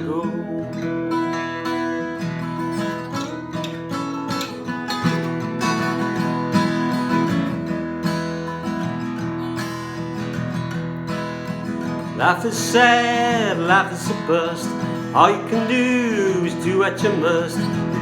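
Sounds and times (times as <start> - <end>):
acoustic guitar fingerpicking: 0.0 - 18.0.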